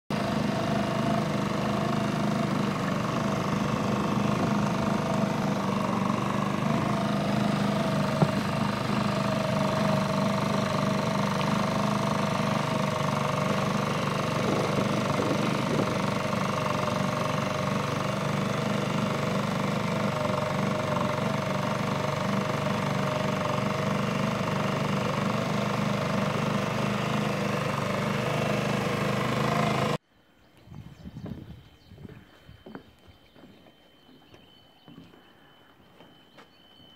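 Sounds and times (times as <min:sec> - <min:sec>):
small boat engine running: 0:00.1 - 0:30.0.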